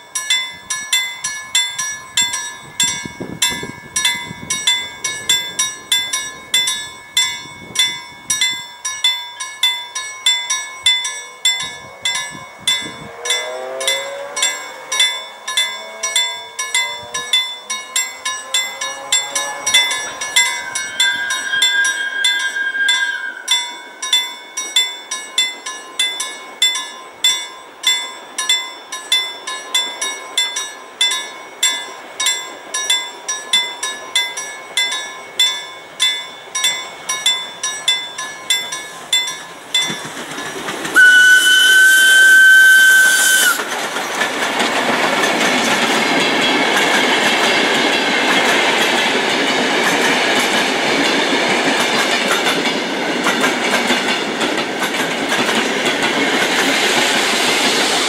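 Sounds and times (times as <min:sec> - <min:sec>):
level crossing warning bell ringing: 0:00.0 - 0:42.8, 0:43.4 - 0:56.6.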